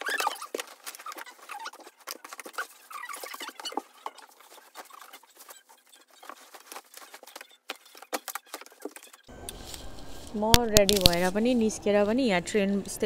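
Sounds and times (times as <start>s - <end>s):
clothes rustling: 0.0s - 12.8s.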